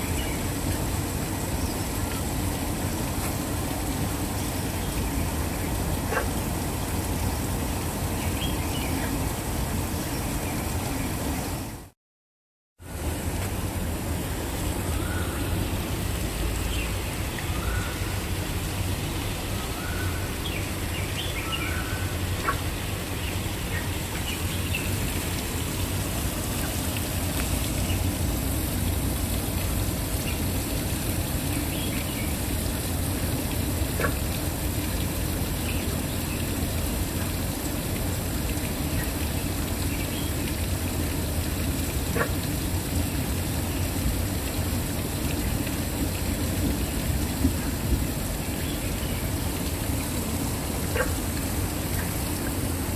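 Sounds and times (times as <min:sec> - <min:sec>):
waterfall roaring: 0:00.0 - 0:11.9, 0:12.8 - 0:52.9.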